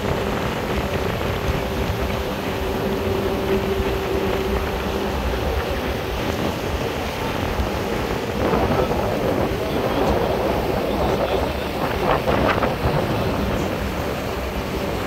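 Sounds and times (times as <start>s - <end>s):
boat engine running: 0.0s - 15.0s
water rushing along hull: 0.0s - 15.0s
wind buffeting microphone: 0.0s - 15.0s.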